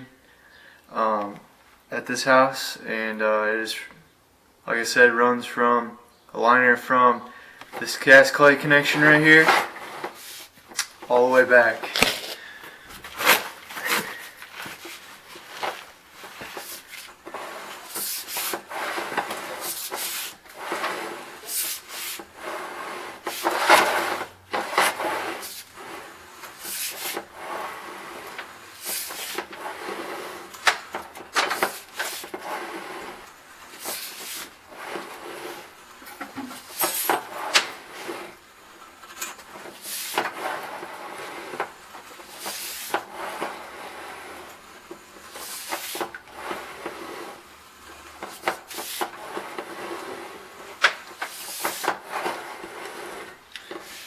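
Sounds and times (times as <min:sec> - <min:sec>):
cable scraping in drain pipe: 0:07.7 - 0:54.0.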